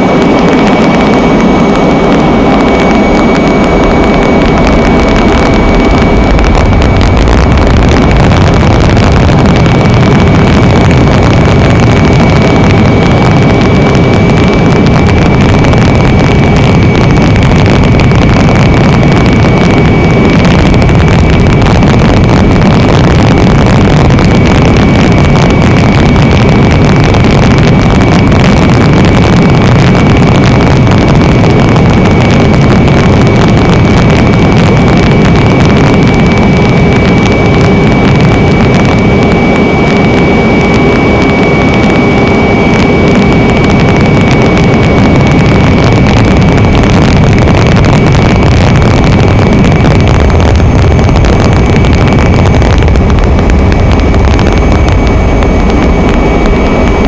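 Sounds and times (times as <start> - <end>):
aircraft engine and wind noise: 0.0 - 57.0
high whine: 0.0 - 57.0.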